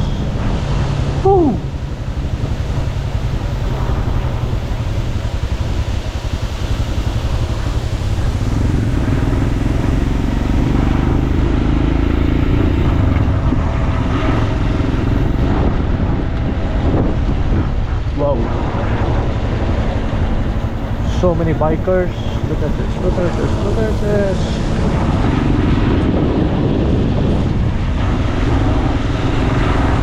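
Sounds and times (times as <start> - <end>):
motorcycle engine rumble: 0.0 - 30.0
wind: 0.0 - 30.0.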